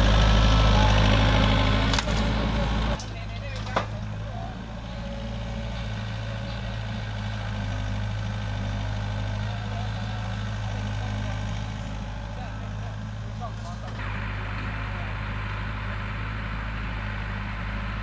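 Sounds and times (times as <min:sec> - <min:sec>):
diesel engines idling: 0:00.0 - 0:18.0.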